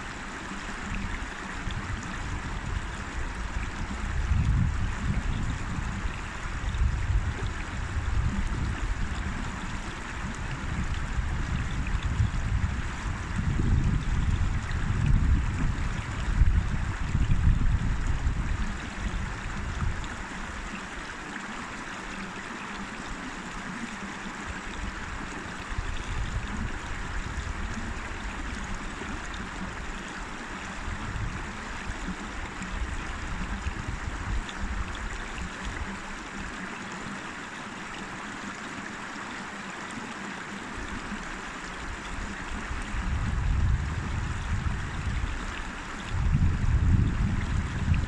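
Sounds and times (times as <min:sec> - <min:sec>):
wind rumble on microphone: 0:00.0 - 0:21.1, 0:23.0 - 0:37.2, 0:40.8 - 0:48.0
stream water rushing: 0:00.0 - 0:48.0.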